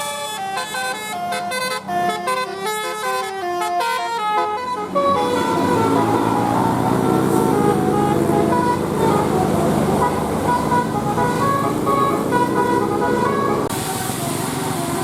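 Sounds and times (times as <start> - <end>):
bus engine running: 0.0 - 15.0
multi-tone bus horn melody: 0.0 - 15.0.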